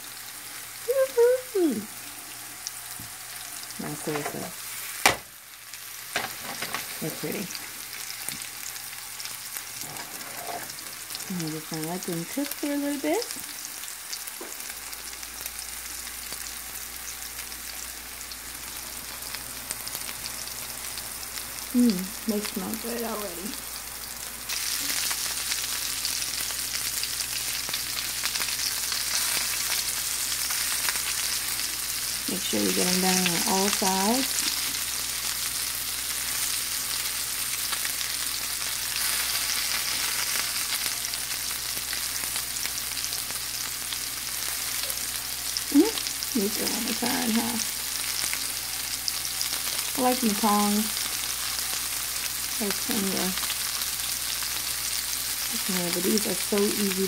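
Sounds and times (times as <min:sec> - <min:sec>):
meatballs sizzling in oil: 0:00.0 - 0:57.0.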